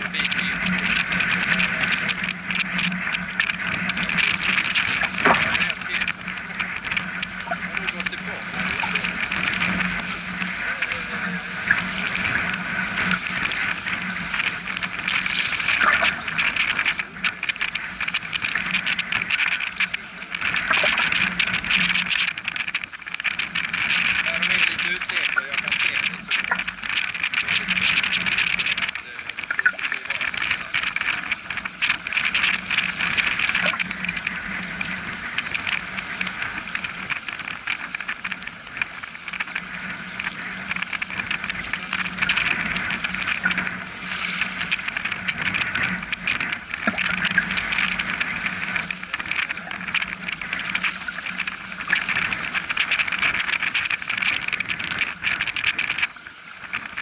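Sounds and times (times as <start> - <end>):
water slapping around legs: 0.0 - 57.0
waves rushing: 0.0 - 57.0.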